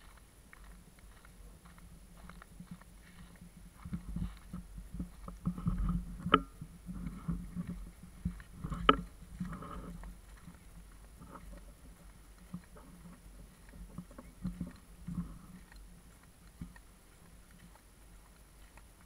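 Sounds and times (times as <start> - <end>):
camera handling rumble: 0.6 - 16.8.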